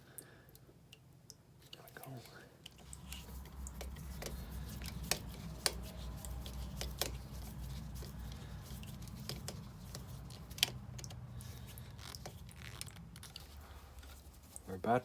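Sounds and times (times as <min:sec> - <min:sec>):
low steady hum: 0:00.0 - 0:15.0
small clicks and rustles: 0:01.6 - 0:15.0.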